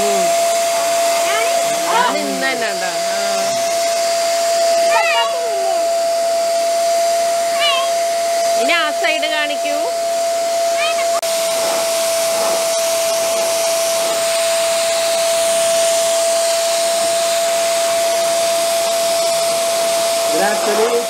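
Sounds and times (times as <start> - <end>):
electric pump blowing air: 0.0 - 21.0
motor whine: 0.0 - 21.0.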